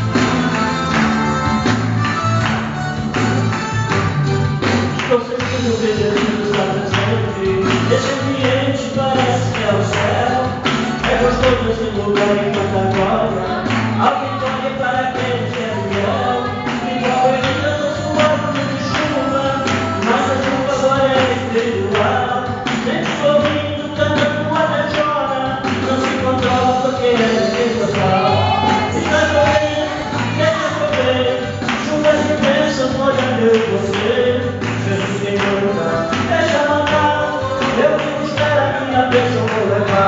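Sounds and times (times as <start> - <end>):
musical accompaniment: 0.0 - 40.0
percussion beat: 0.0 - 40.0
man singing through loudspeakers: 4.9 - 40.0.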